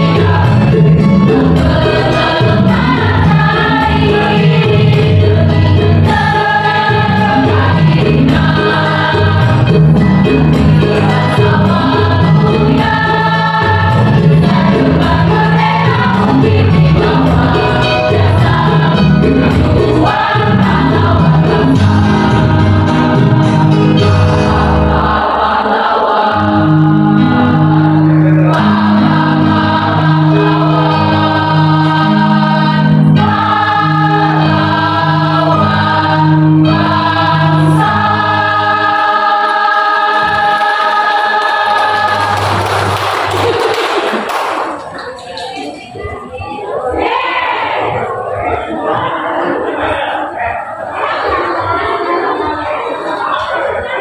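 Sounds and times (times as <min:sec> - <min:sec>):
electronic keyboard: 0:00.0 - 0:43.7
choir singing in parts: 0:00.0 - 0:54.0.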